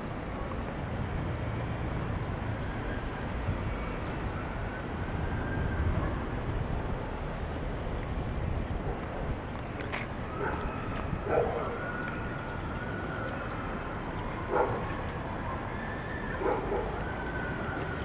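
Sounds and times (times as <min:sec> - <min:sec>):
city low rumble: 0:00.0 - 0:18.0.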